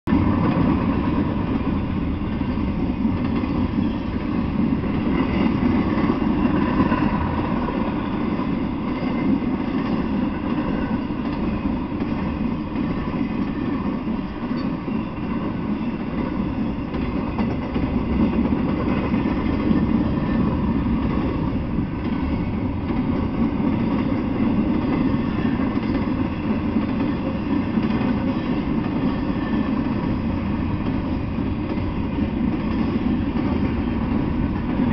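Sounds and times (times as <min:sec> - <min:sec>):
freight train rolling past: 0:00.1 - 0:34.9
steel wheels on rails: 0:00.1 - 0:34.9.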